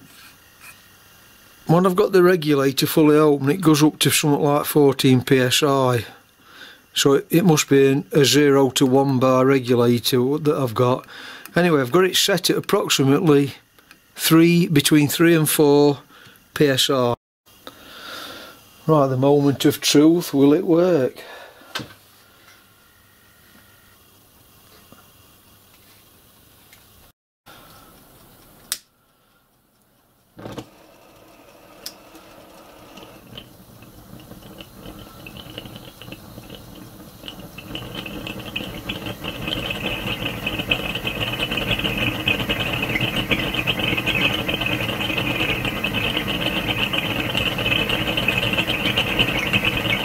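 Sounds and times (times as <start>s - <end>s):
gas burner flames hissing: 0.0s - 22.9s, 24.4s - 50.0s.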